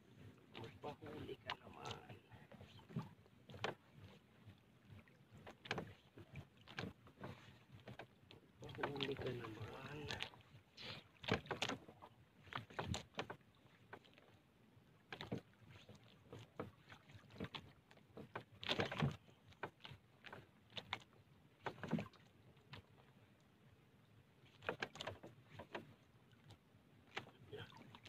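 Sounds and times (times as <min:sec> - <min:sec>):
knocks and scrapes on a boat: 0:00.0 - 0:28.0.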